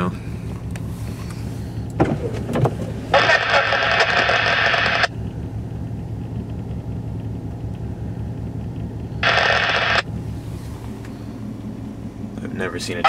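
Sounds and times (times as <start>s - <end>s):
vehicle idling rumble: 0.0s - 13.0s.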